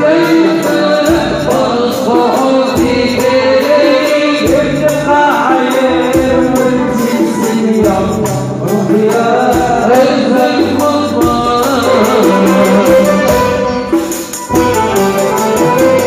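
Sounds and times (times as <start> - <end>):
drum kit beat: 0.0 - 16.0
hand drums: 0.0 - 16.0
man singing: 0.0 - 16.0
tambourine: 0.0 - 16.0.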